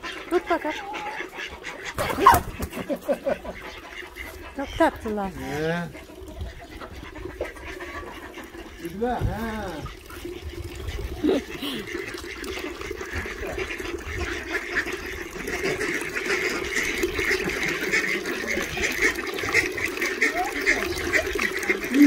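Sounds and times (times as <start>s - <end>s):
poultry calling: 0.0s - 9.0s, 12.4s - 22.0s
running water: 0.0s - 22.0s.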